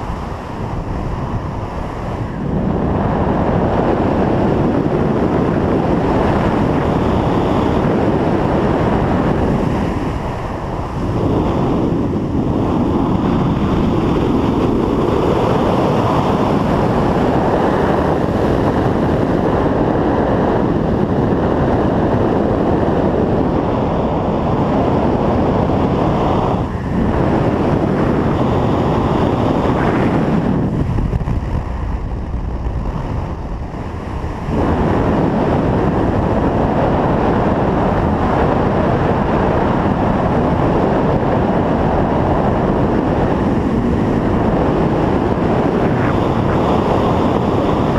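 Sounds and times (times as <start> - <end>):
wind roaring over microphone: 0.0 - 47.9.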